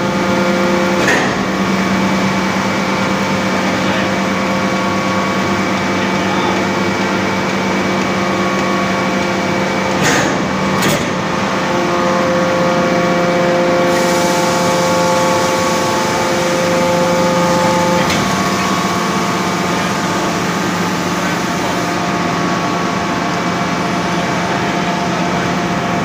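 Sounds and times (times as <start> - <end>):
forging press humming: 0.0 - 26.0.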